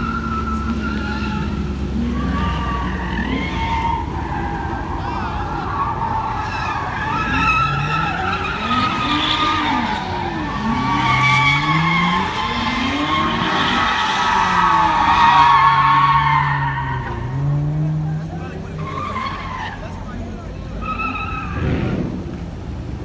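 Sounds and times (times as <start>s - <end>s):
car engine revving: 0.0s - 23.0s
tires squealing: 0.0s - 23.0s.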